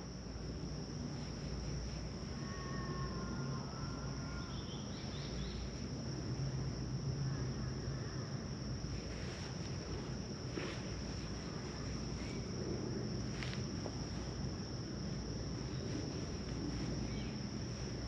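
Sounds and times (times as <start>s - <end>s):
insect drone: 0.0s - 18.0s
low background hum: 0.0s - 18.0s.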